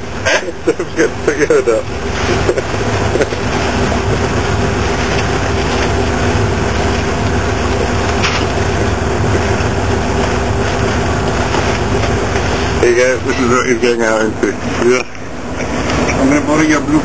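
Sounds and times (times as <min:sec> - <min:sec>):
boat engine humming: 0:00.0 - 0:17.0
wind and water rushing: 0:00.0 - 0:17.0.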